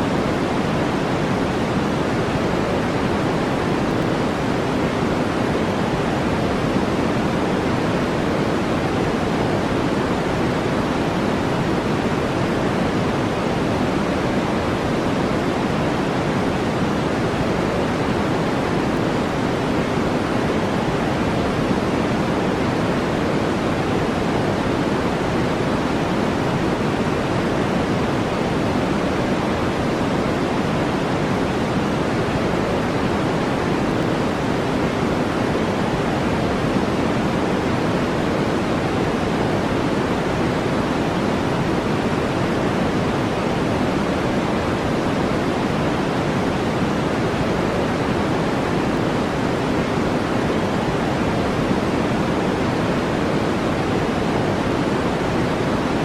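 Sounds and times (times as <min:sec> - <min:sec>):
deep brown noise hiss: 0:00.0 - 0:56.0.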